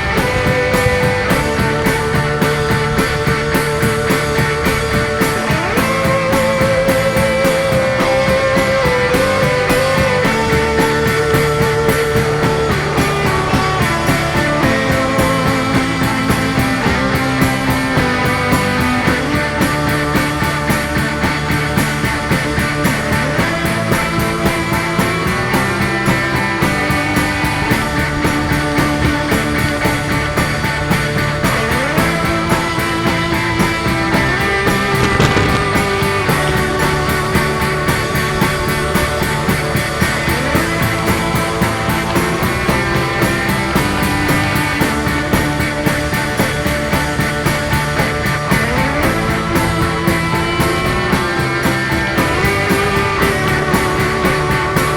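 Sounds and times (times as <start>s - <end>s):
rock music with electric guitar: 0.0s - 54.9s.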